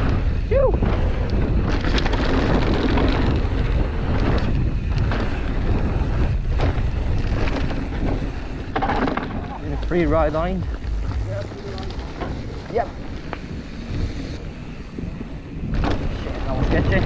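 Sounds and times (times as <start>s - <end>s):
bike clicks and rattles: 0.0s - 17.0s
tyres rumbling on dirt trail: 0.0s - 17.0s
wind buffeting microphone: 0.0s - 17.0s.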